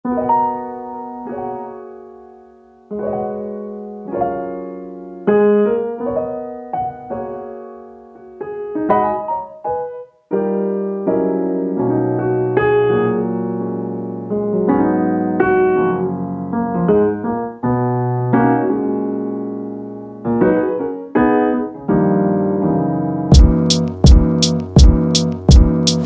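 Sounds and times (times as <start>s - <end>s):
solo piano chords: 0.0s - 26.0s.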